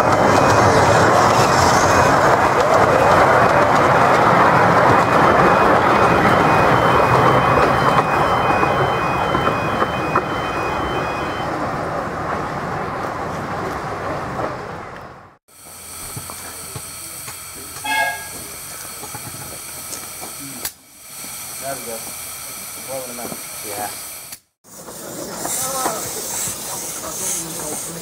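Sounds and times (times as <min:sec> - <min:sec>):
miniature train rumbling past: 0:00.0 - 0:24.0, 0:24.7 - 0:28.0.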